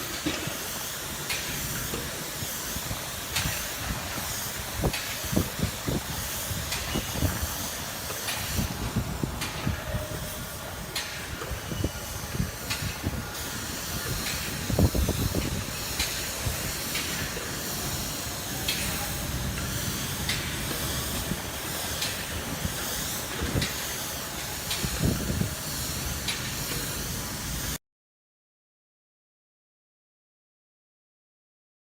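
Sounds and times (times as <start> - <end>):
spray gun hissing: 0.0 - 27.8.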